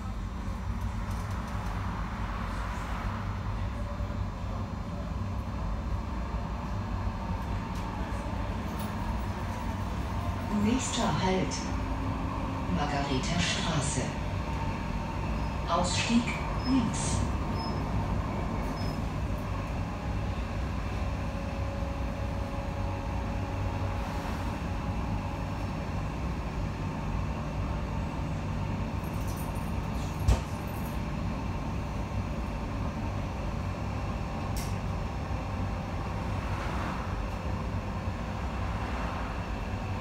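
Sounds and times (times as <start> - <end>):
tram wheels rumbling on track: 0.0 - 40.0.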